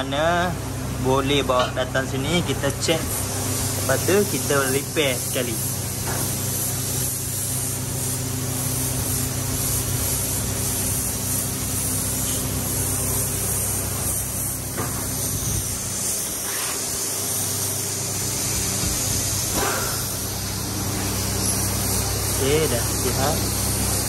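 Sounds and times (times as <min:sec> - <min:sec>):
steady low hum: 0:00.0 - 0:24.0
paint spray gun hissing: 0:02.7 - 0:24.0.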